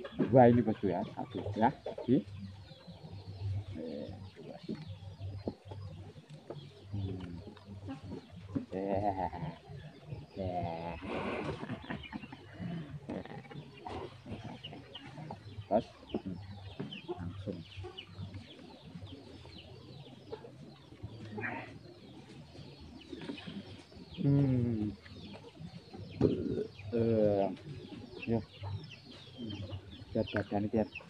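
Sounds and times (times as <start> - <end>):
chickens clucking and chirping: 0.0 - 31.0.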